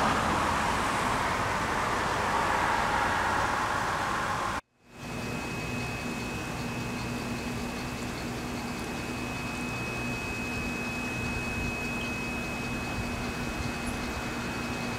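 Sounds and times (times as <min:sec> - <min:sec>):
constant low hum: 0:00.0 - 0:14.9
thin high whine: 0:00.0 - 0:14.9.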